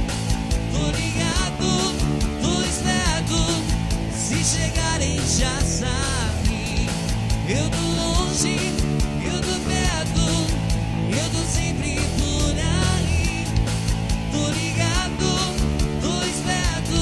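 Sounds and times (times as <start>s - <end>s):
rock song with lead singer: 0.0s - 17.0s.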